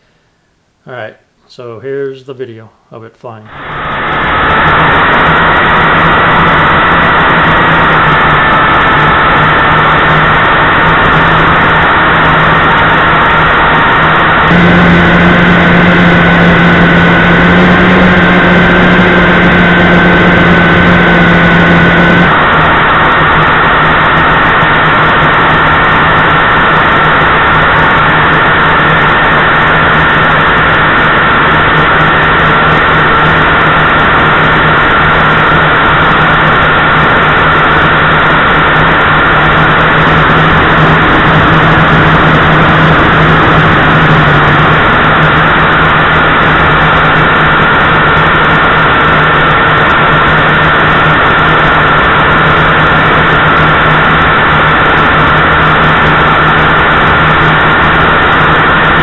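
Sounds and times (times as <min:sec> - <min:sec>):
drone propellers droning: 0:03.5 - 0:59.0.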